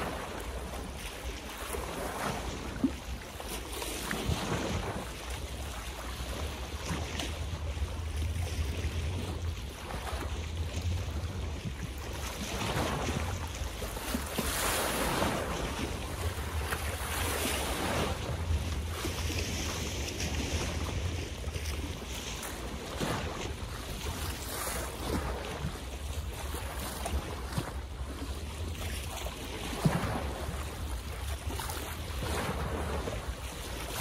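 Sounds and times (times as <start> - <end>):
water splashing and lapping: 0.0 - 34.0
wind rumbling on microphone: 0.0 - 34.0.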